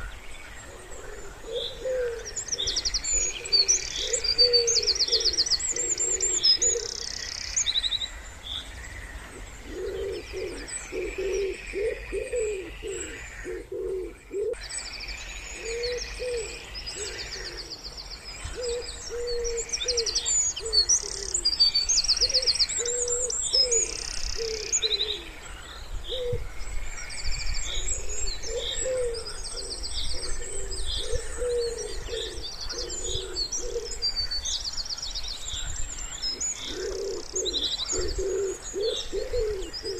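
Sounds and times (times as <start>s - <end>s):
wood pigeons cooing: 0.0s - 7.5s, 9.1s - 14.6s, 15.5s - 17.8s, 18.4s - 26.6s, 27.5s - 34.4s, 35.6s - 39.9s
songbirds trilling and chirping: 0.0s - 39.9s.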